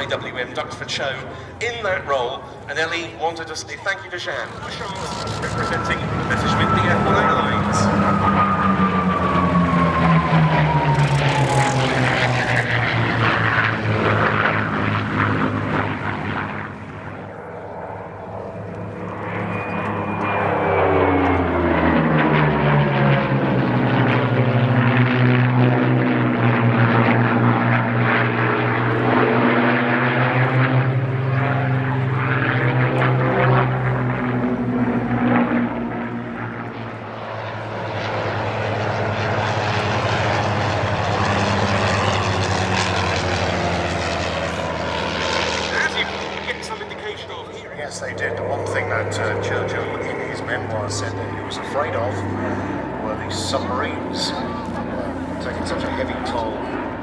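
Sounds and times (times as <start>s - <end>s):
propeller aircraft flying past: 0.0s - 57.0s.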